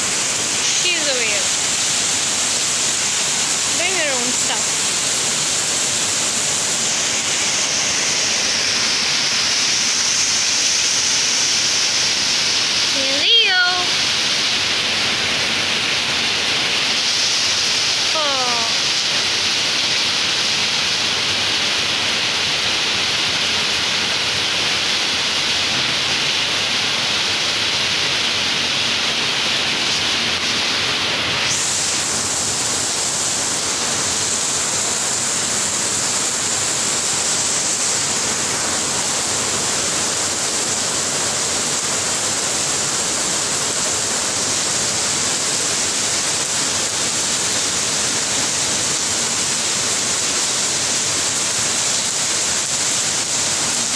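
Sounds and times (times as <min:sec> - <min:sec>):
steady rain hissing: 0:00.0 - 0:53.9.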